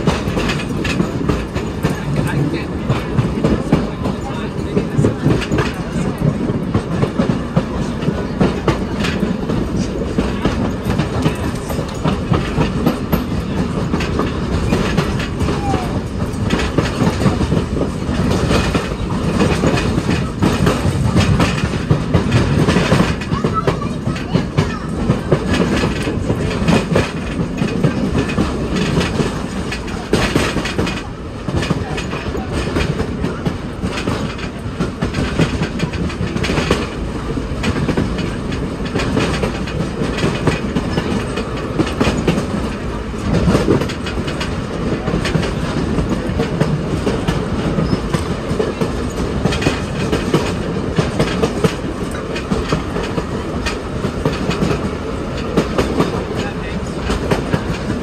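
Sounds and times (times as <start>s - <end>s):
train cars rumbling: 0.0s - 58.0s
wheels clacking over rails: 0.0s - 58.0s.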